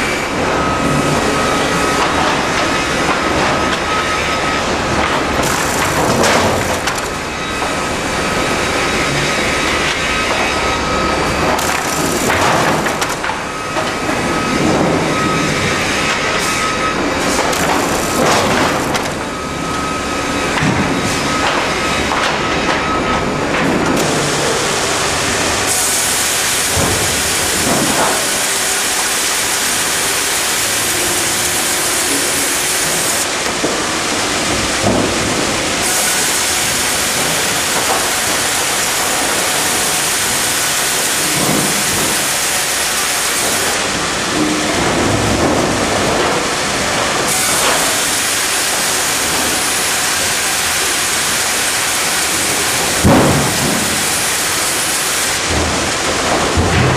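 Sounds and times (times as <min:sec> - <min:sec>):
sawmill machine and saw noise: 0:00.0 - 0:56.9
steady machine whine: 0:00.0 - 0:56.9.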